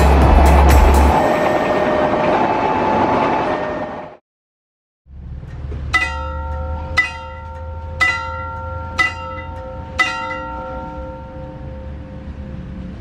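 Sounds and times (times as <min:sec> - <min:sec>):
level crossing warning bell: 0:00.0 - 0:04.1, 0:05.5 - 0:13.0.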